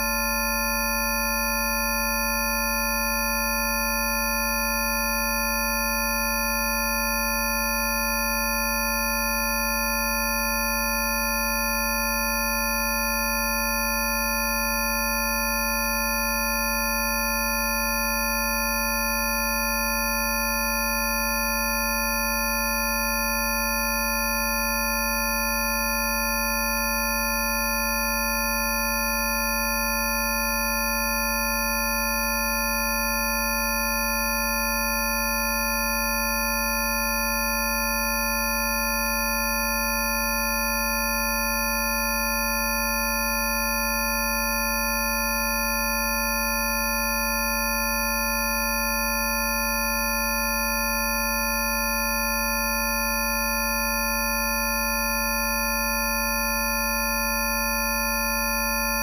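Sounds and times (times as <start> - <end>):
sine tone drone: 0.0 - 59.0.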